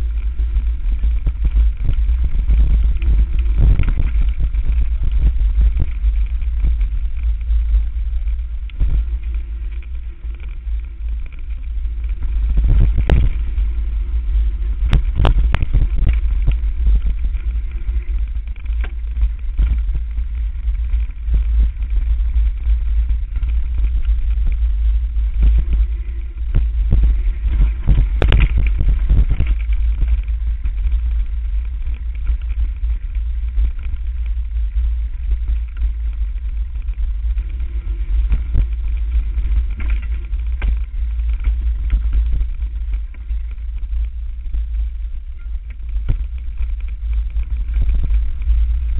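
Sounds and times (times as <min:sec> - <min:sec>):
bike knocking and clattering: 0:00.0 - 0:48.9
wind buffeting microphone: 0:00.0 - 0:48.9.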